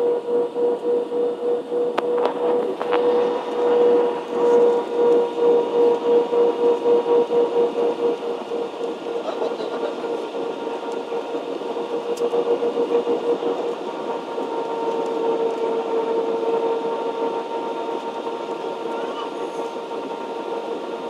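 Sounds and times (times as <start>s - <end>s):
airflow and jet engines rushing: 0.0s - 21.0s
steady cabin hum: 0.0s - 21.0s.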